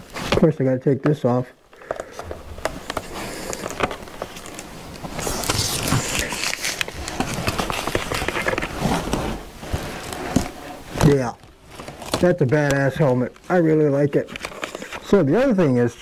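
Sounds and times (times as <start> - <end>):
helmet handling: 0.0 - 13.5
sticker peeling rustle: 2.7 - 15.8.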